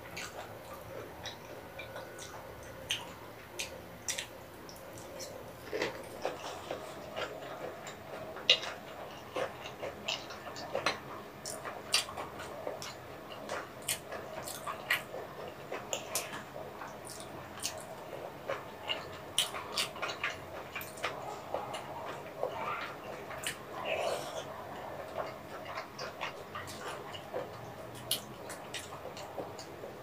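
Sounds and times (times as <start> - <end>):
wet chewing mouth clicks: 0.1 - 30.0.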